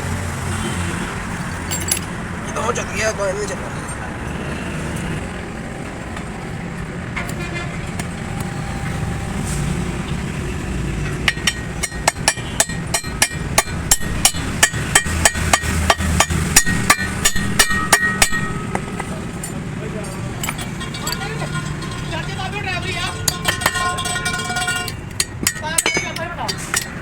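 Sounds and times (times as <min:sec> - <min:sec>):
low vehicle rumble: 0:00.0 - 0:27.0.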